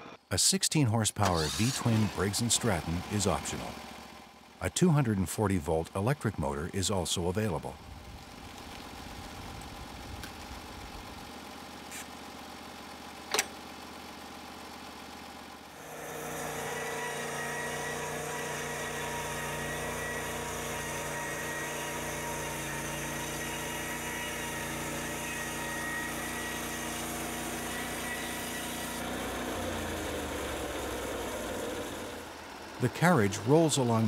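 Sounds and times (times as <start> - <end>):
small gasoline engine running: 1.2 - 34.0.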